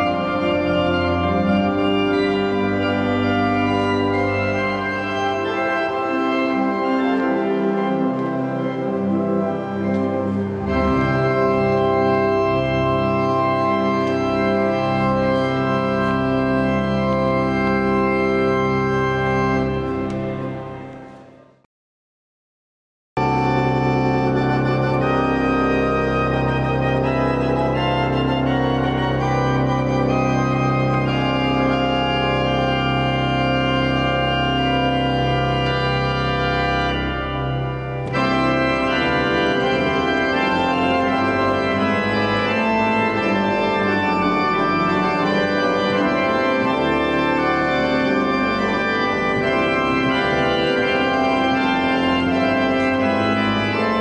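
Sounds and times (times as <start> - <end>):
organ music: 0.0 - 21.6, 23.2 - 54.0.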